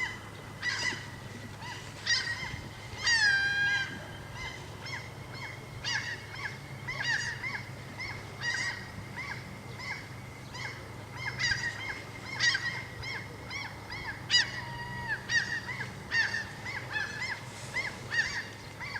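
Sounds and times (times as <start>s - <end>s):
birds honking calls: 0.0s - 18.9s
steady low rumble: 0.0s - 18.9s.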